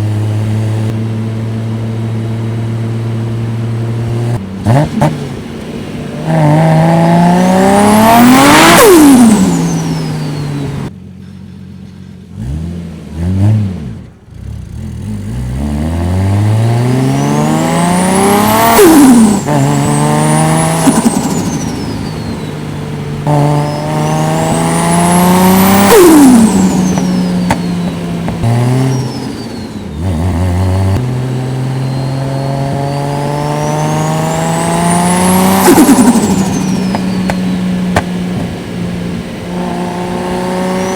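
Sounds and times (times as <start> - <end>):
engine revving: 0.0 - 10.9, 11.9 - 40.9.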